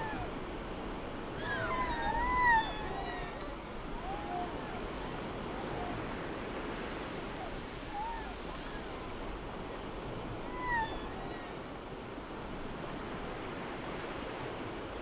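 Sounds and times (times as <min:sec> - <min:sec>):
sea water washing around kayak: 0:00.0 - 0:15.0.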